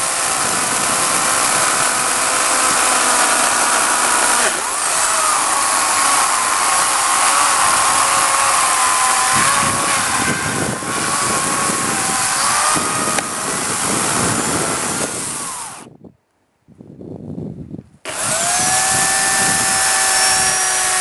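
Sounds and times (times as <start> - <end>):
chain cutting into wood: 0.0 - 15.9, 18.1 - 21.0
electric chainsaw motor whine: 0.0 - 15.9, 18.1 - 21.0.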